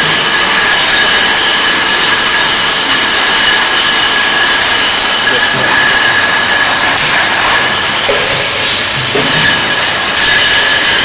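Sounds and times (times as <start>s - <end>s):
packaging machine hissing: 0.0s - 11.0s
thin high whine: 0.0s - 11.0s.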